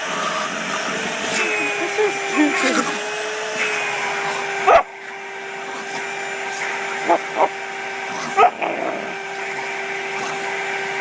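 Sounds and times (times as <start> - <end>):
vacuum cleaner motor humming: 0.0 - 11.0
dogs barking: 0.1 - 11.0.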